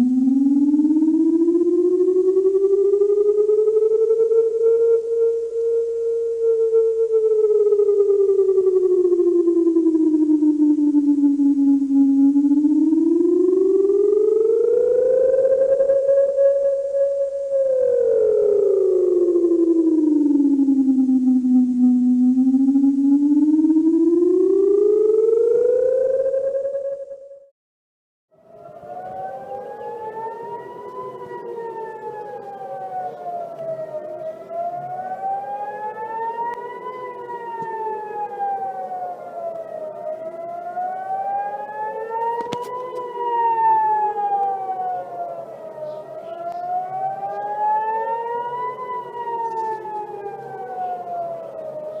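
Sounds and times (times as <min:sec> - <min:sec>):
warning siren wailing: 0:00.0 - 0:27.5, 0:28.3 - 0:52.0.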